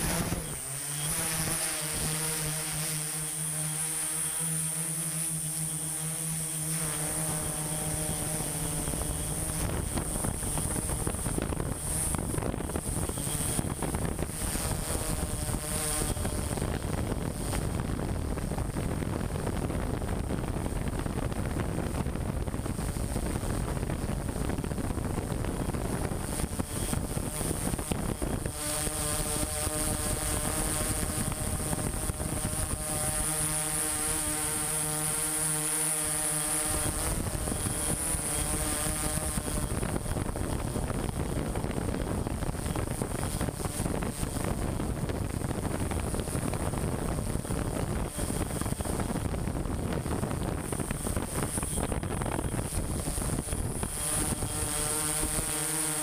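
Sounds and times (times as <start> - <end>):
drone motors buzzing: 0.0 - 56.0.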